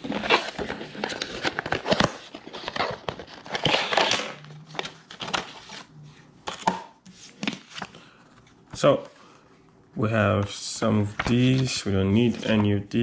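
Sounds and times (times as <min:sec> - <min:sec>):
paper and card rustling: 0:00.0 - 0:09.4, 0:10.3 - 0:13.0.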